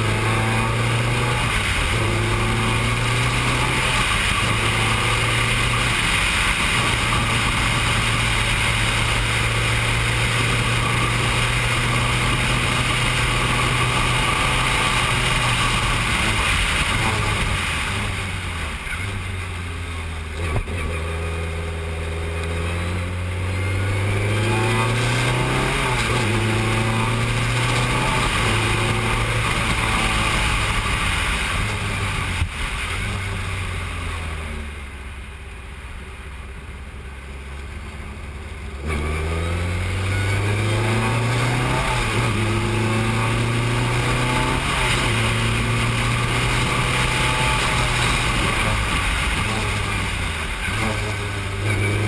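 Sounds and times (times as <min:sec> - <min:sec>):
race car engine accelerating: 0:00.0 - 0:34.8, 0:38.4 - 0:52.0.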